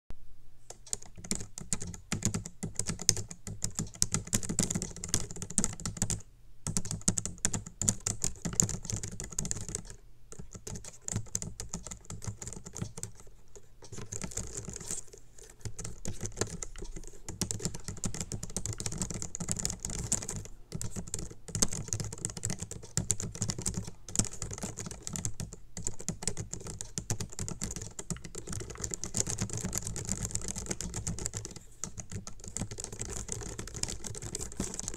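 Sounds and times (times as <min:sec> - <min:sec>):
rapid keyboard typing: 0:00.7 - 0:34.9.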